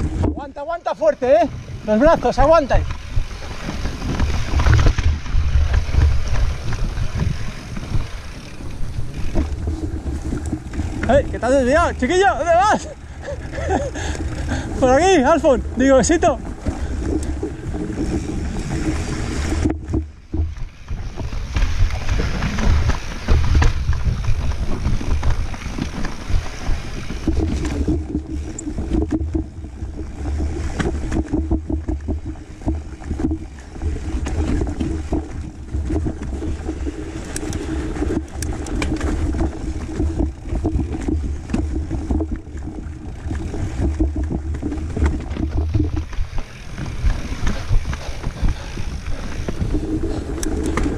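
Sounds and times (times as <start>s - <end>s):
bike rattling and knocking: 0.0s - 50.9s
wind buffeting microphone: 0.0s - 50.9s.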